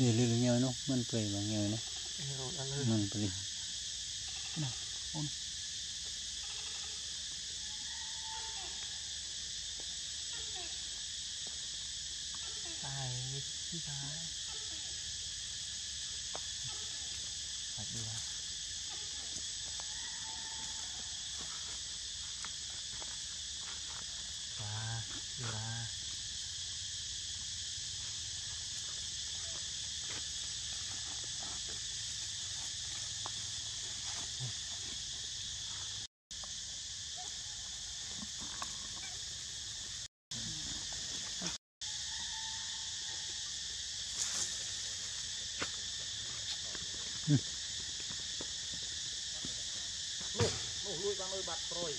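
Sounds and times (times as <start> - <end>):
insects chorus: 0.0 - 51.9.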